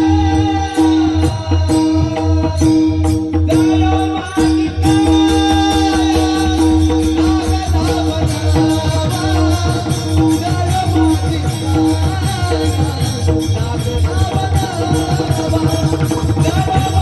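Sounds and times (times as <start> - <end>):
devotional singing: 0.0 - 17.0
drum rhythm: 0.0 - 17.0.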